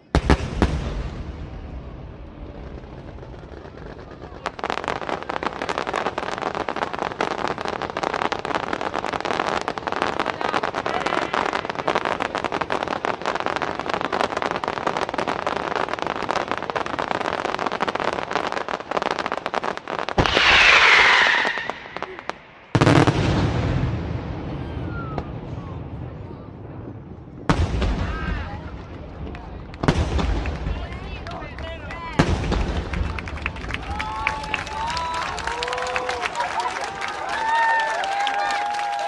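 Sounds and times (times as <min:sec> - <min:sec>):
fireworks crackling and popping: 0:00.0 - 0:39.0
loud firework bursts: 0:00.0 - 0:39.0.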